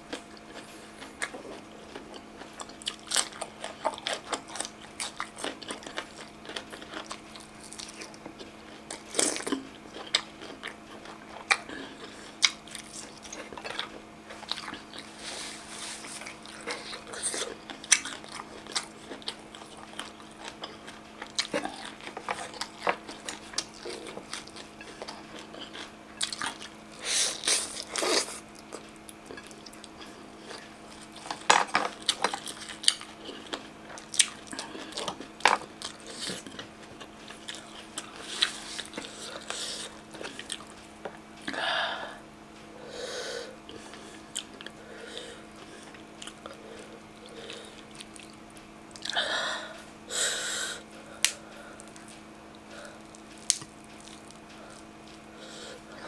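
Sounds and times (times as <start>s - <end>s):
chewing with mouth clicks: 0.0s - 41.6s, 43.7s - 44.8s, 45.4s - 49.2s, 50.9s - 56.0s.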